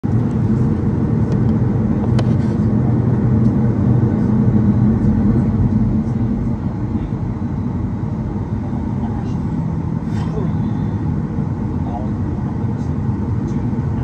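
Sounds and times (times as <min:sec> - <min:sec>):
low aircraft cabin rumble: 0:00.0 - 0:14.0.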